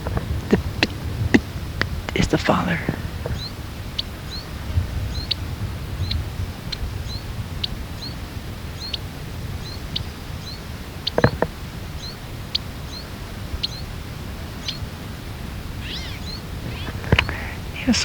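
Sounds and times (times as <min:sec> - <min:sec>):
small bird call notes: 0:00.0 - 0:18.0.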